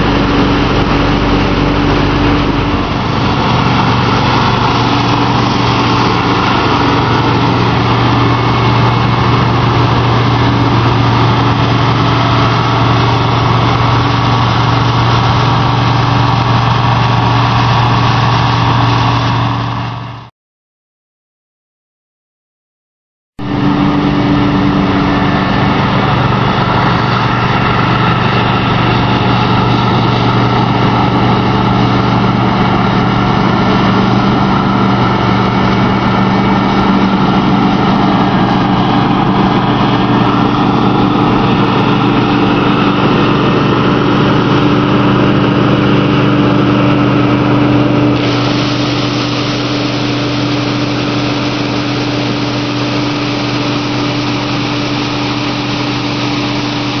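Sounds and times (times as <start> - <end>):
farm diesel engine running: 0.0 - 20.3, 23.4 - 57.0.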